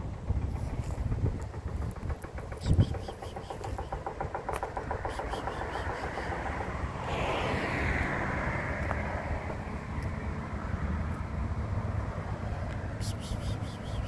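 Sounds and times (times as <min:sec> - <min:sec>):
traffic rumble: 0:00.0 - 0:14.0
vehicle passing by: 0:00.0 - 0:14.0.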